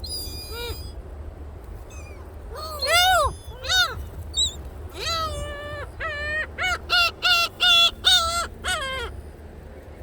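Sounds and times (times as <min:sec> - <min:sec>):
gulls calling: 0:00.0 - 0:01.0, 0:01.8 - 0:09.2.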